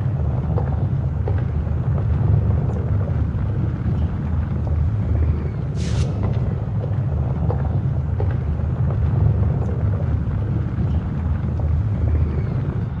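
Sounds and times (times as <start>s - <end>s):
deep fire rumble: 0.0s - 13.0s.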